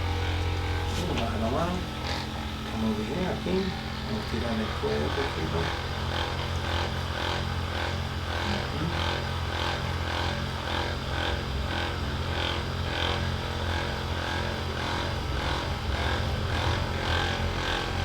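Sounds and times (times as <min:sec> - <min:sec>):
pulsing mechanical hum: 0:00.0 - 0:18.0.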